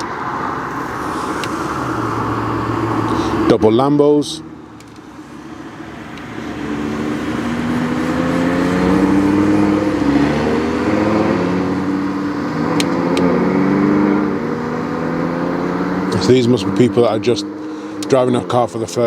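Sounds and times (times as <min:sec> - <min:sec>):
sports cars driving past: 0:00.0 - 0:19.0.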